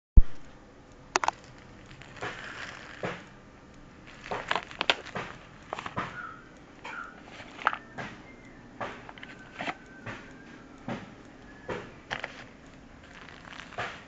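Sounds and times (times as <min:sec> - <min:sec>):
handling clicks: 0:00.3 - 0:14.0.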